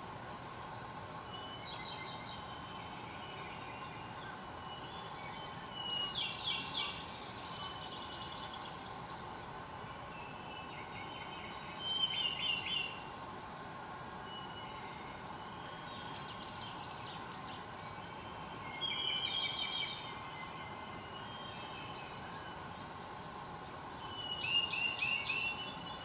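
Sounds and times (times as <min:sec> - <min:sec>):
songbirds singing: 0:00.7 - 0:26.0.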